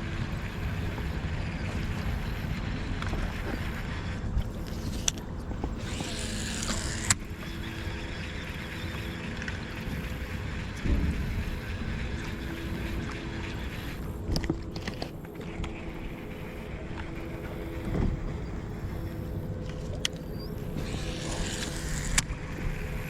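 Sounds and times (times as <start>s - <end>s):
boat rumbling on water: 0.0s - 23.0s
faint hum: 0.0s - 23.0s.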